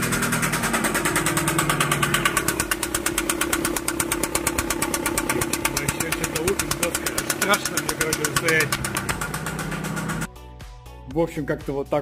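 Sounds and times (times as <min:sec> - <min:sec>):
car engine idling: 0:00.0 - 0:10.3
engine knocking and rattling: 0:00.0 - 0:10.3.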